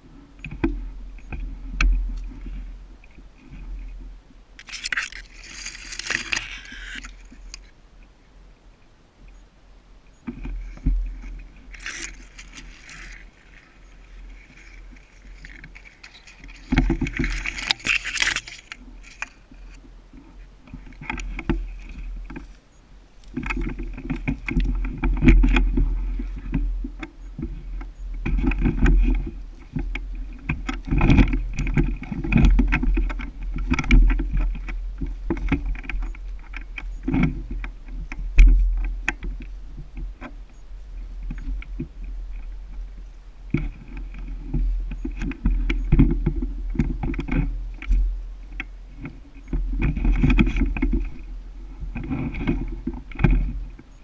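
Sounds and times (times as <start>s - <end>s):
rustling through brush: 0.0s - 8.4s, 10.2s - 54.0s
wind rumbling on camera: 0.0s - 54.0s.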